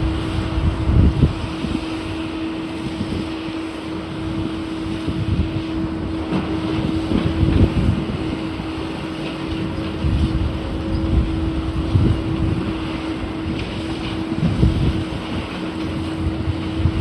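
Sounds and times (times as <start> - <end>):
demolition machinery droning: 0.0 - 17.0
wind buffeting microphone: 0.0 - 17.0.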